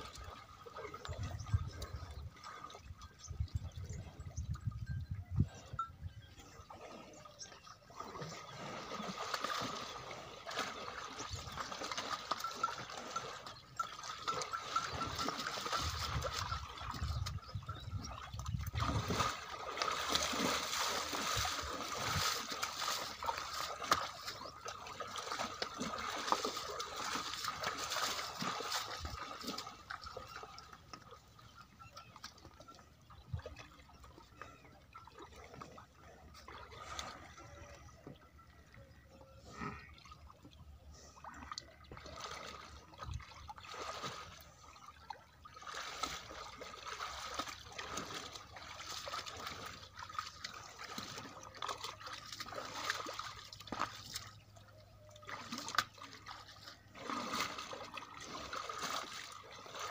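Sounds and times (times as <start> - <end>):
water splashing around animals' legs: 0.0 - 4.9, 6.5 - 59.9.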